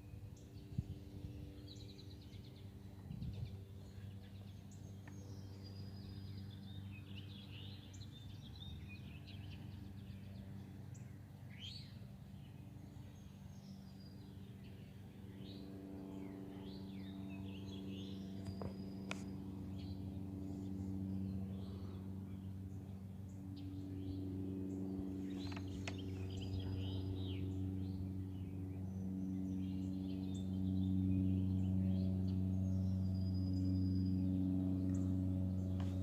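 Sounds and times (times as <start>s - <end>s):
low mechanical hum: 0.0s - 36.0s
songbirds chirping and trilling: 0.0s - 36.0s.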